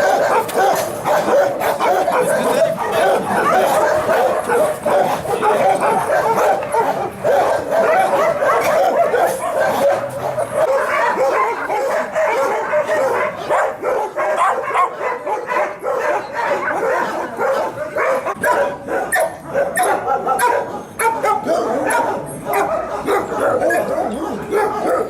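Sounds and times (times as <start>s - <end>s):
many dogs barking: 0.0s - 25.0s.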